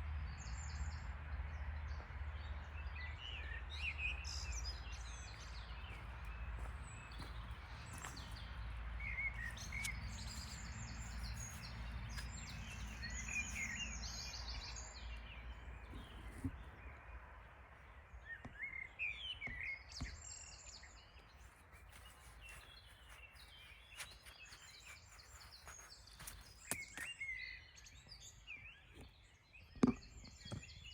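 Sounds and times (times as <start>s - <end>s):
songbirds chirping: 0.0s - 30.9s.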